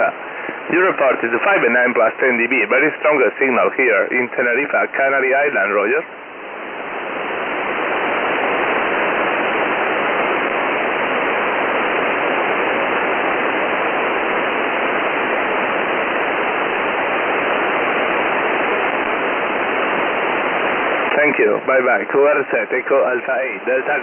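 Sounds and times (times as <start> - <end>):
shortwave receiver hiss: 0.0 - 24.0.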